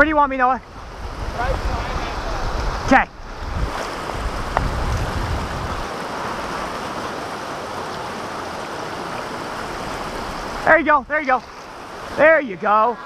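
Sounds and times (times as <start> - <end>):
creek rushing over rocks: 0.6 - 13.0.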